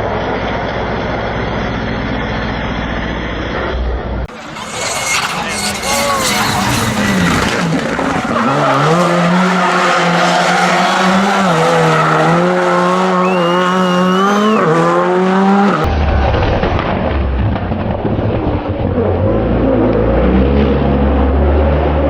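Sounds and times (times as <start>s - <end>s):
rally car engine at high revs: 3.5s - 22.0s.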